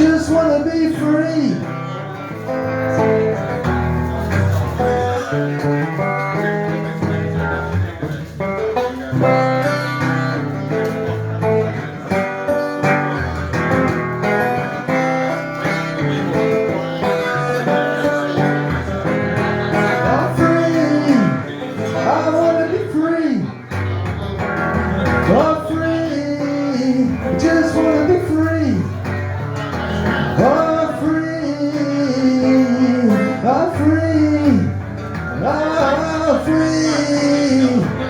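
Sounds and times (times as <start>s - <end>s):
live guitar instrumental: 0.0s - 38.0s.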